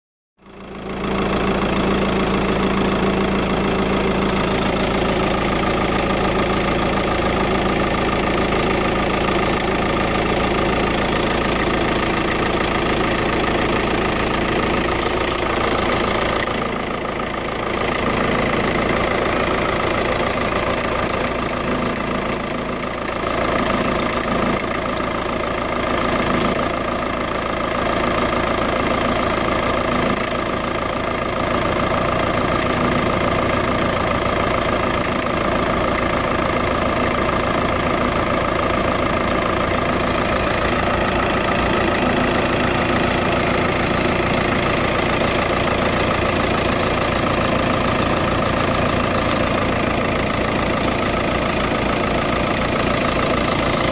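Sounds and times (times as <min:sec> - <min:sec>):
diesel engine idling: 0:00.4 - 0:53.9
engine ticking: 0:00.4 - 0:53.9.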